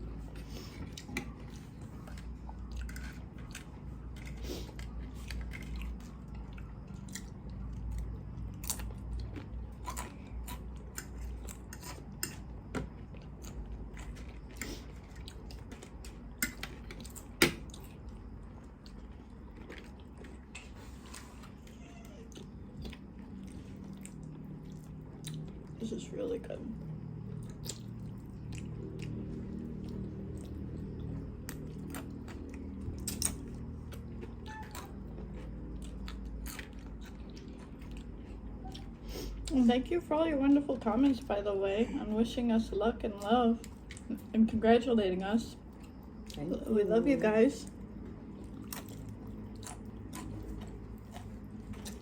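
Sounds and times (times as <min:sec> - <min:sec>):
chewing crunchy fried chicken: 0:00.0 - 0:25.9, 0:26.8 - 0:39.6, 0:43.1 - 0:44.4, 0:45.5 - 0:46.8, 0:47.6 - 0:52.0.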